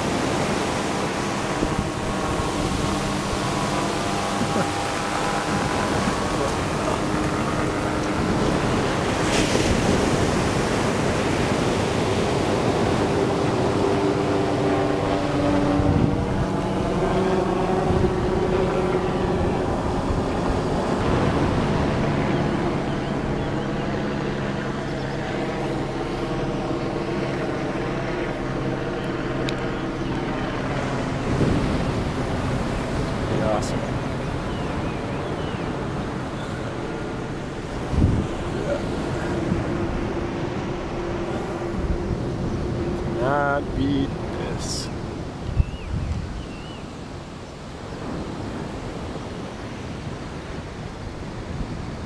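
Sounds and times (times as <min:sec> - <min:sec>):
ocean surf breaking on beach: 0:00.0 - 0:52.0
wind buffeting microphone: 0:00.0 - 0:52.0.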